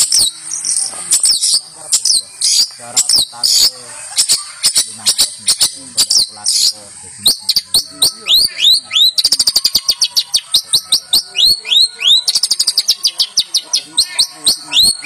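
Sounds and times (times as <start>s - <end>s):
bird singing high notes: 0.0s - 15.0s
rapid bird trills: 0.0s - 15.0s.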